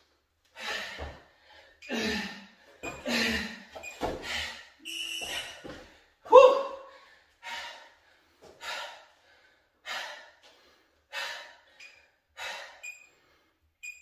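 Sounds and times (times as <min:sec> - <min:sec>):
man breathing heavily: 0:00.5 - 0:06.2, 0:06.8 - 0:13.8.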